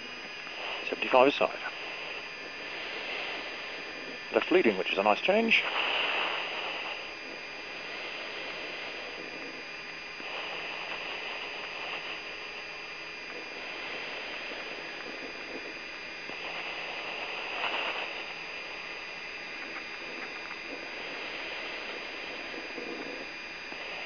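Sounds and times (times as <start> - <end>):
faint high whining tones: 0.0 - 24.0
radio channel hiss and hum: 0.0 - 24.0.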